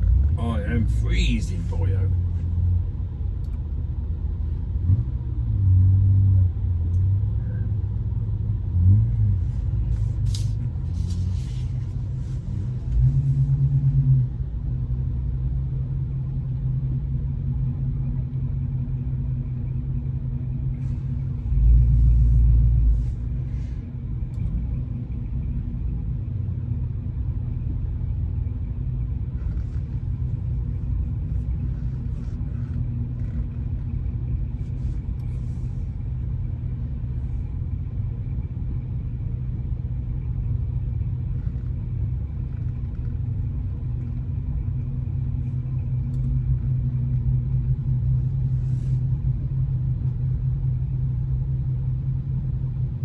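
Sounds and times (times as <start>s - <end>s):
car cabin engine and road rumble: 0.0s - 53.0s.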